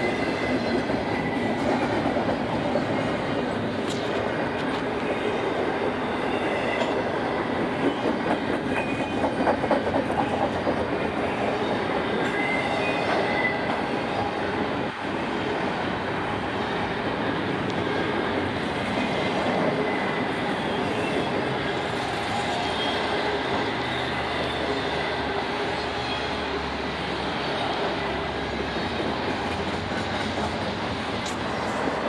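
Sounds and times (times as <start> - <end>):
train wheels clattering on rails: 0.0 - 15.2, 17.2 - 32.0.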